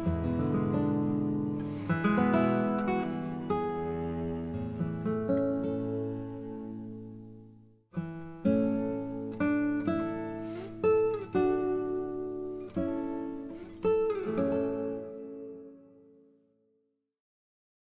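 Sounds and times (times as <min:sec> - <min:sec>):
acoustic guitar strumming: 0:00.0 - 0:16.1.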